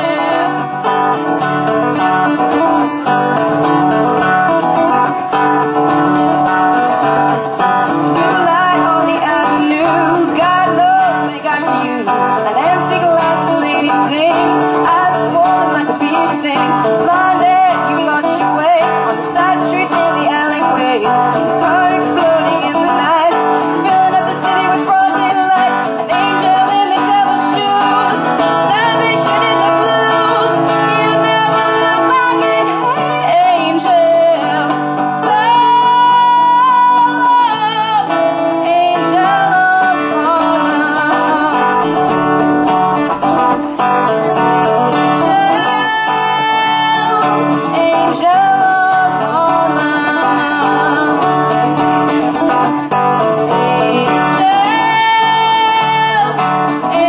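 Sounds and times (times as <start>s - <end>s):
women singing: 0.0s - 5.2s, 6.2s - 57.0s
acoustic guitars strummed: 0.0s - 57.0s.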